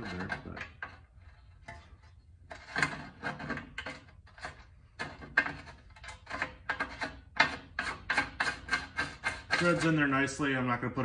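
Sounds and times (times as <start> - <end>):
plug threads scraping: 0.0 - 10.3.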